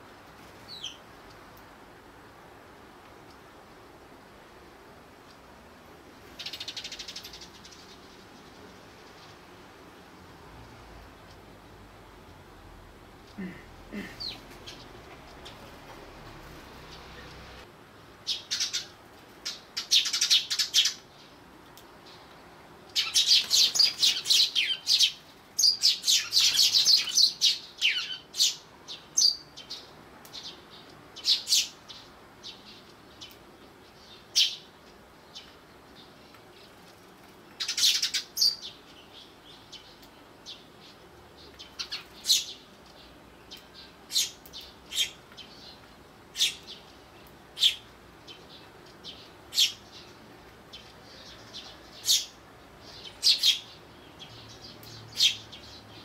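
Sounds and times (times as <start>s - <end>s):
sparrows chirping: 0.5s - 1.1s, 6.1s - 11.4s, 13.4s - 56.0s.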